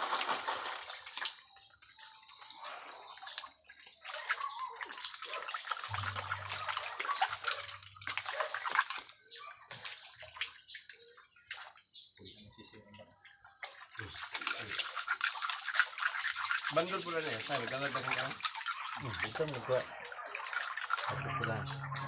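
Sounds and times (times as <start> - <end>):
water sloshing: 0.0 - 11.6, 13.7 - 22.0.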